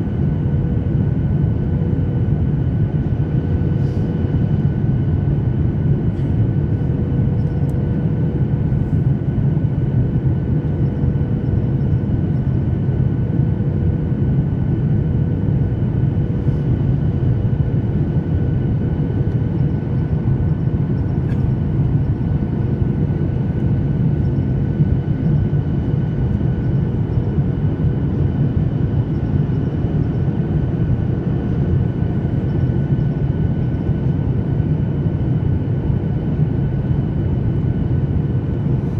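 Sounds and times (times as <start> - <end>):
airplane cabin roar: 0.0 - 38.9.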